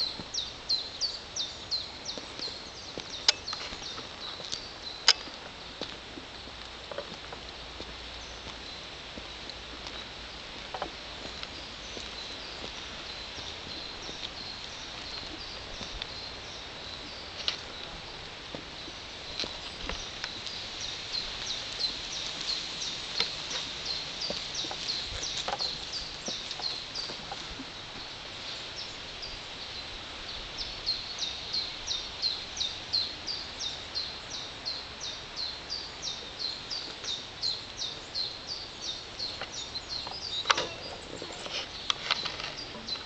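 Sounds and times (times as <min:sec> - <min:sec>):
songbird chirping: 0:00.0 - 0:43.0.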